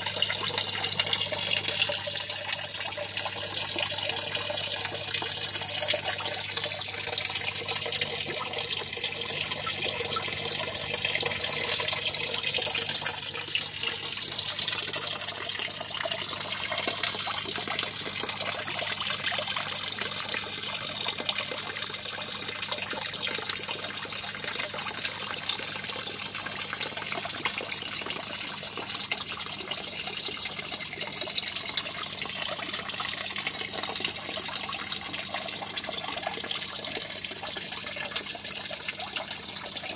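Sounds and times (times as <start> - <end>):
water trickling into fish tank: 0.0 - 39.9.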